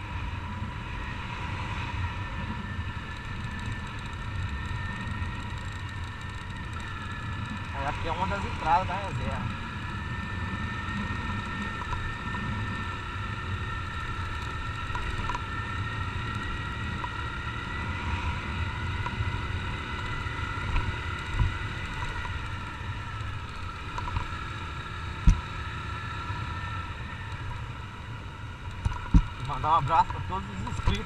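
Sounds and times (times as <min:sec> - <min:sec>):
motorcycle engine cruising: 0:00.0 - 0:31.0
wind rush on camera: 0:00.0 - 0:31.0.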